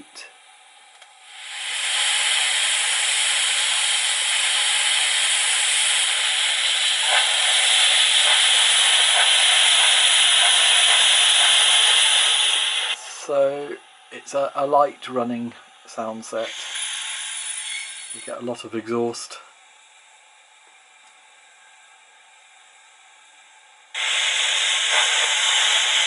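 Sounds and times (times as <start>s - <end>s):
steam hiss through small speaker: 0.0s - 20.0s, 24.0s - 26.0s.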